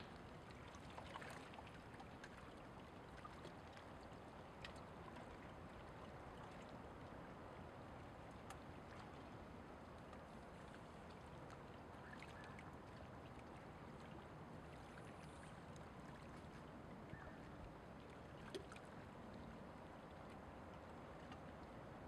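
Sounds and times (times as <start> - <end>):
soft water lapping: 0.0 - 22.0.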